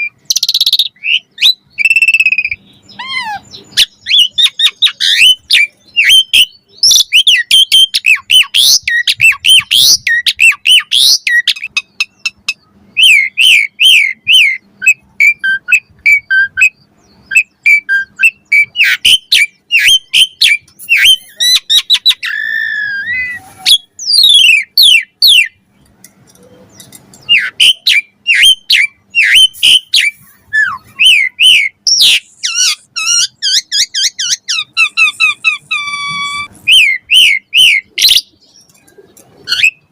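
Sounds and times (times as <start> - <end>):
starling singing whistled notes: 0.0 - 25.6, 26.4 - 38.8, 39.4 - 39.9.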